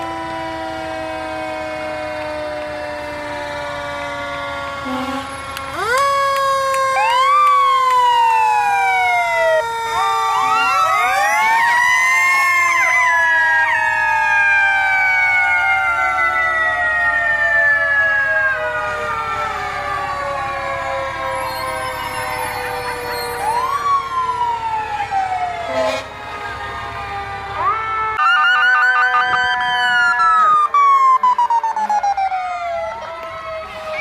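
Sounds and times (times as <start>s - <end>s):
fire truck sirens wailing: 0.0s - 34.0s.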